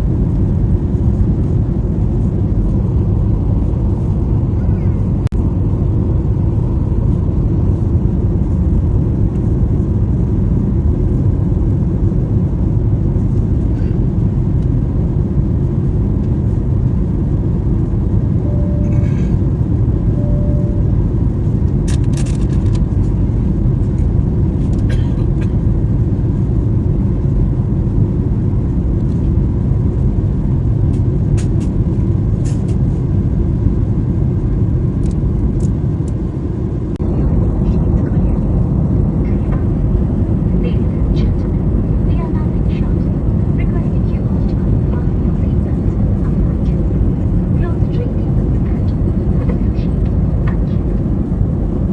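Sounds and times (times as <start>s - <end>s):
airliner cabin rumble: 0.0s - 51.9s.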